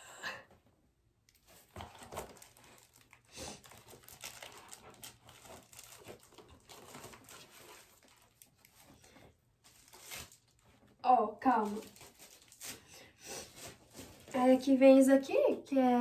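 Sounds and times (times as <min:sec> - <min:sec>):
plastic wrapping crinkling: 0:01.3 - 0:14.8.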